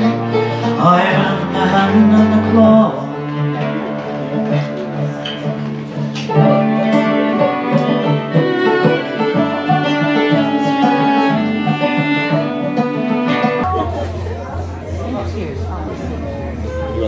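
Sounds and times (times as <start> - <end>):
band playing string music: 0.0 - 17.0.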